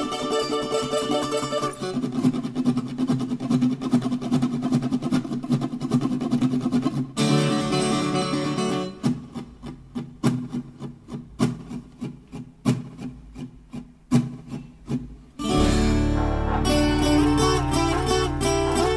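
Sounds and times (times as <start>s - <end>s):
acoustic guitar music: 0.0s - 18.9s.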